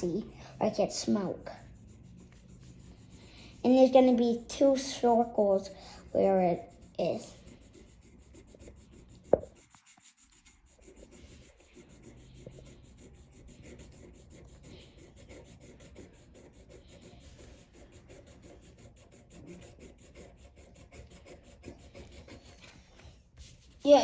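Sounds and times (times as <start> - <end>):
pen scratching on paper: 0.0 - 24.0.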